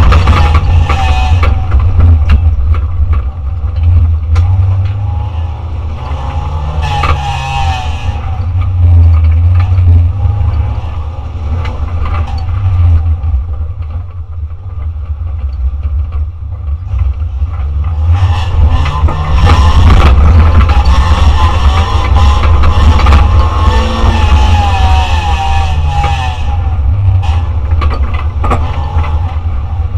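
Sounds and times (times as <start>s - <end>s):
race car engine rumbling: 0.0s - 29.9s.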